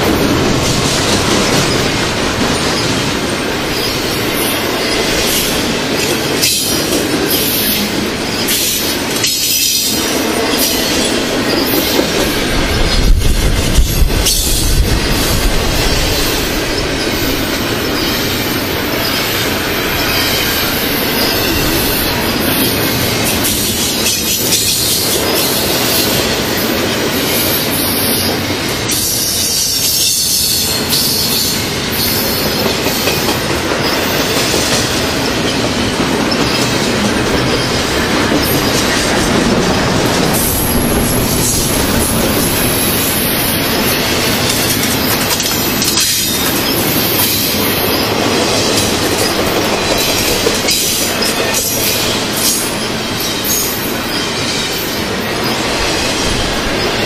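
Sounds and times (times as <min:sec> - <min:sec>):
freight train wheels clattering: 0:00.0 - 0:57.0
train low rumble: 0:00.0 - 0:57.0.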